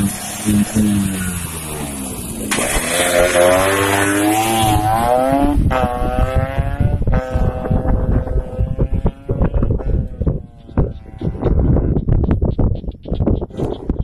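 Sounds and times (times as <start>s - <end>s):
scooter engine revving: 0.0s - 11.8s.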